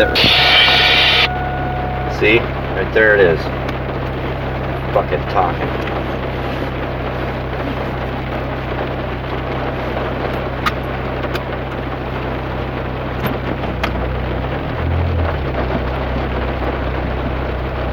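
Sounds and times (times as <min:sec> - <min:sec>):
engine low hum: 0:00.0 - 0:17.9
heavy rain on car body: 0:02.2 - 0:17.9.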